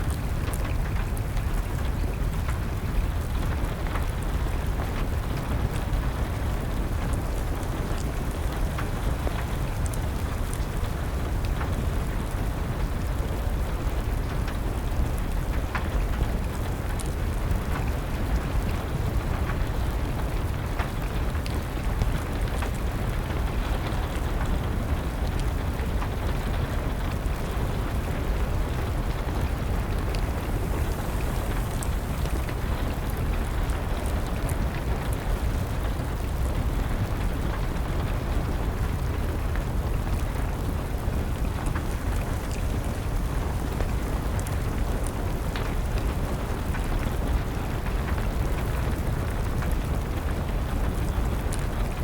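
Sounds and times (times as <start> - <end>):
steady rain: 0.0 - 52.0
wood fire crackling: 0.1 - 52.0.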